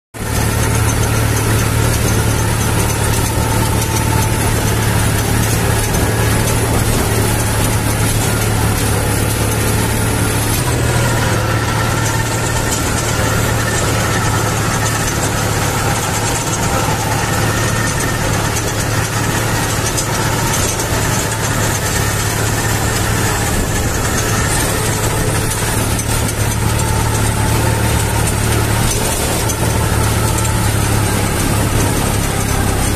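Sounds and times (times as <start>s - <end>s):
tractor diesel engine under load: 0.2s - 32.9s.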